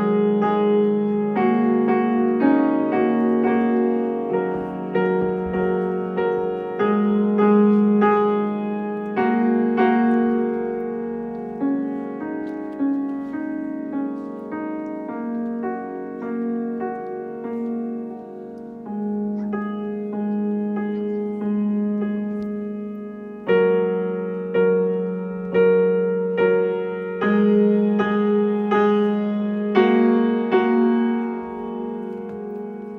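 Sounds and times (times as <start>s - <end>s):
grand piano played gently: 0.0s - 32.9s.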